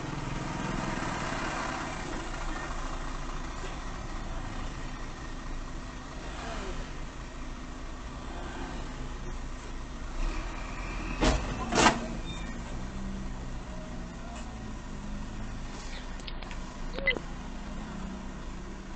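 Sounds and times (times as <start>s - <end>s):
car engine idling: 0.0s - 10.2s, 12.2s - 18.9s
vehicles passing: 0.0s - 18.9s.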